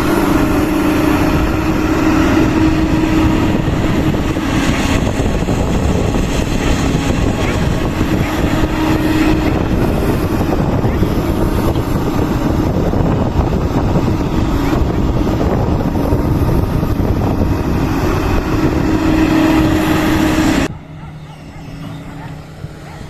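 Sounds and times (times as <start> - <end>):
excavator diesel engine rumbling: 0.0 - 23.0.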